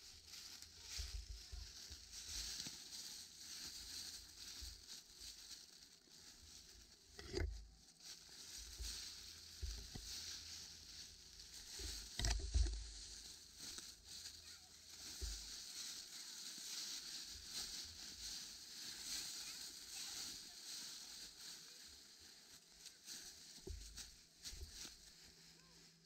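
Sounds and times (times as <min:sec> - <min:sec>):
footsteps crunching dry leaves: 0:00.0 - 0:26.0.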